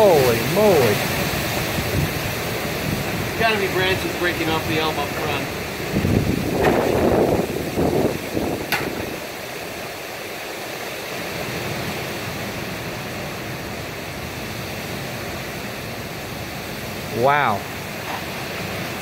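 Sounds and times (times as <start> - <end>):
heavy rain pouring: 0.0 - 19.0
storm noise bursts: 0.0 - 19.0.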